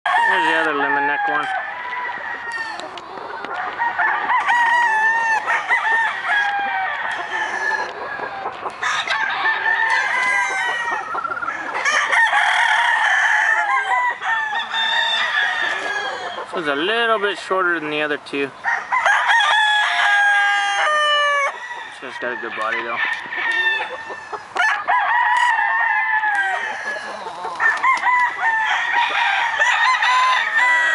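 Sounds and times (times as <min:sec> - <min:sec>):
roosters crowing: 0:00.0 - 0:30.9.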